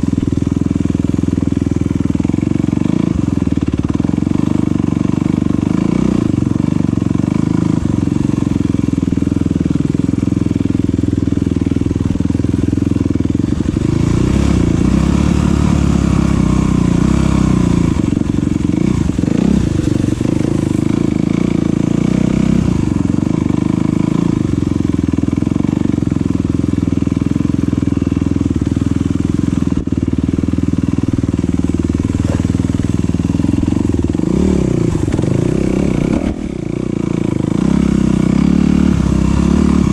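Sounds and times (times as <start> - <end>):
dirt bike engine rumbling: 0.0 - 39.9.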